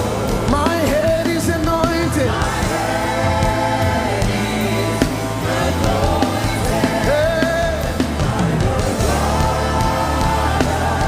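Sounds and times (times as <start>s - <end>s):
gospel band playing: 0.0s - 11.0s
person singing: 0.0s - 11.0s.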